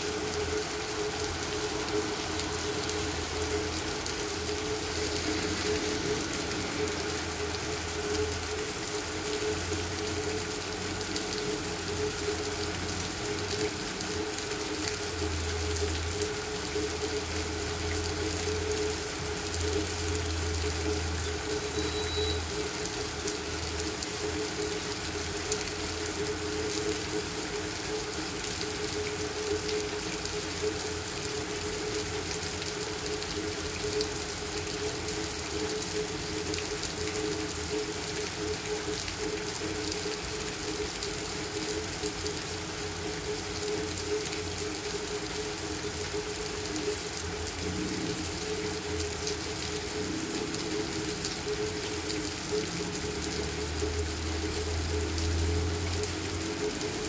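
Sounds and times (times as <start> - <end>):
rain on pavement and cars: 0.0 - 57.0.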